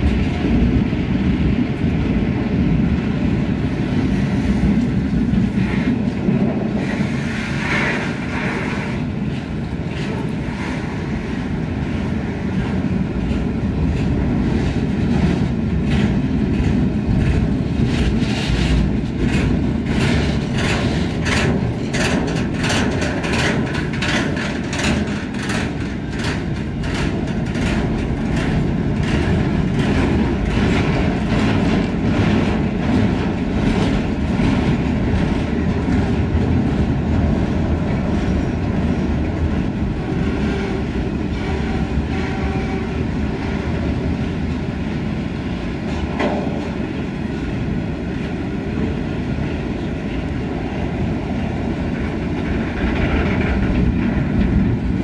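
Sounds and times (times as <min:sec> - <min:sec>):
steel wheels rumbling on rail: 0:00.0 - 0:55.0
wheels clicking over rail joints: 0:00.0 - 0:55.0.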